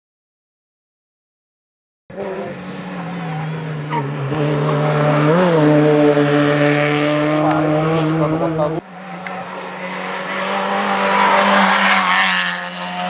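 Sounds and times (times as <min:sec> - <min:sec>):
race car engine at high revs: 0:02.1 - 0:13.0.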